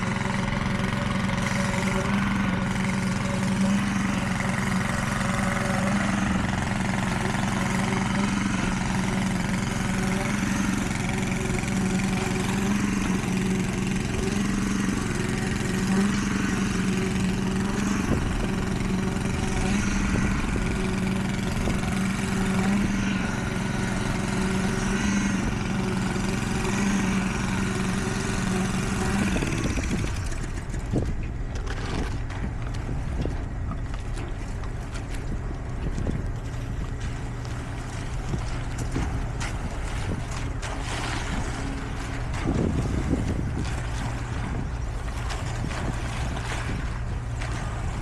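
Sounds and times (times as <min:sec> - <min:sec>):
heavy machine engine running: 0:00.0 - 0:48.0.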